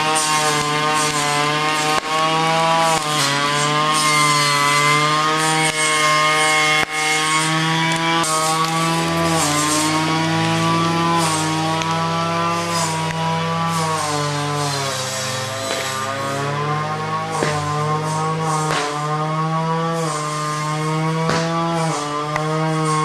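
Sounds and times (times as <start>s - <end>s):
low drone: 3.0s - 21.4s.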